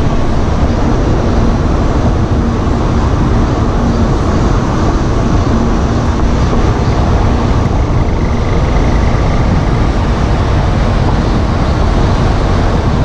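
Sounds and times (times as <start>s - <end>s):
car road and running noise: 0.0s - 13.0s.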